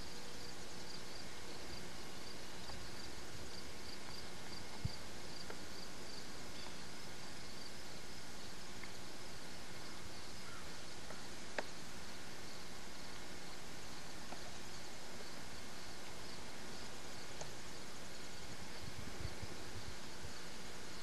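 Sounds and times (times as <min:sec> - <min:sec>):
insects chirping: 0:00.0 - 0:21.0
outdoor hiss: 0:00.0 - 0:21.0.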